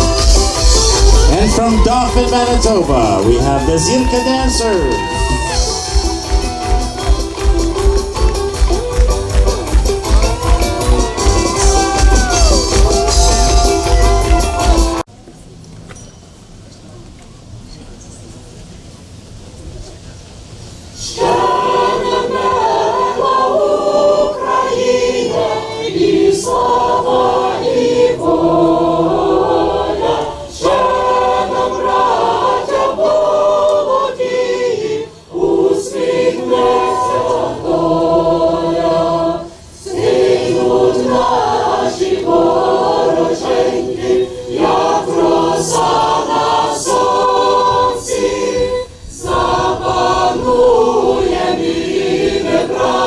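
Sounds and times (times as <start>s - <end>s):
crowd singing an anthem: 0.0s - 7.9s, 10.4s - 15.0s, 21.0s - 53.0s.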